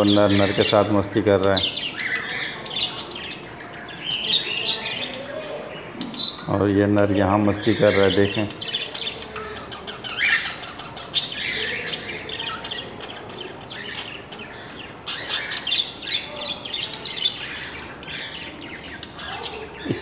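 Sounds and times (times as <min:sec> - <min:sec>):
budgerigars chirping and chattering: 0:00.0 - 0:20.0.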